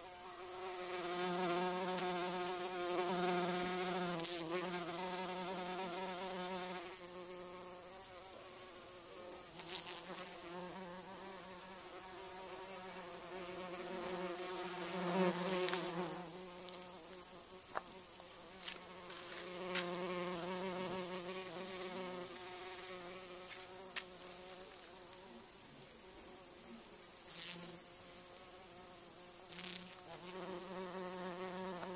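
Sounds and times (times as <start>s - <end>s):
bumblebee buzzing in flight: 0.0s - 25.3s, 27.2s - 31.9s.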